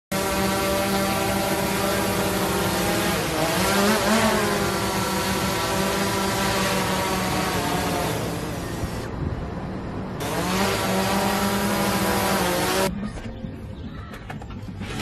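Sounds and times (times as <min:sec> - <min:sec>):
drone propellers whining: 0:00.1 - 0:13.4.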